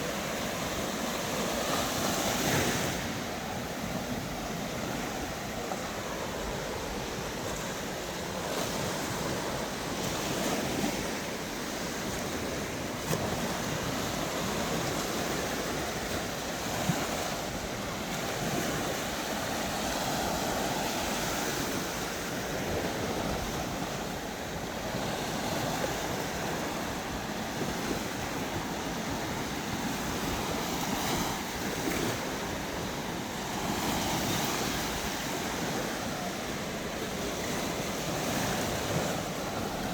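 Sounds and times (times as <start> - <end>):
surf washing onto beach: 0.0 - 39.9.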